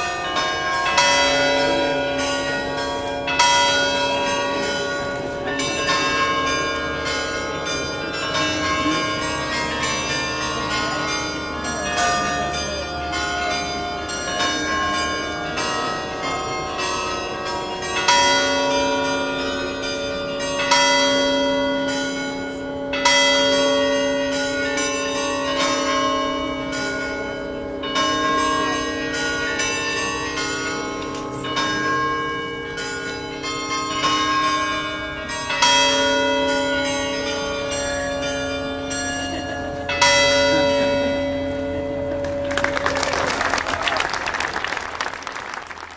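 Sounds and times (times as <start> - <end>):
tower bells ringing: 0.0 - 45.9.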